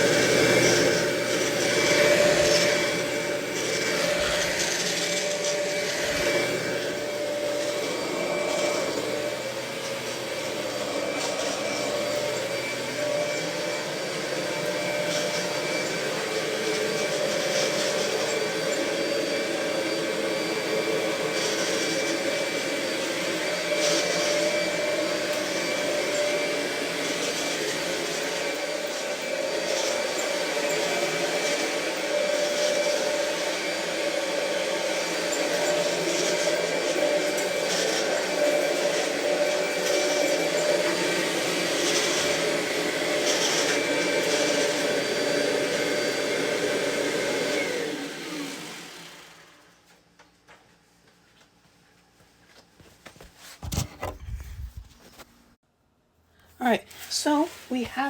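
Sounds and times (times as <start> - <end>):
upright vacuum cleaner running: 0.0 - 50.4.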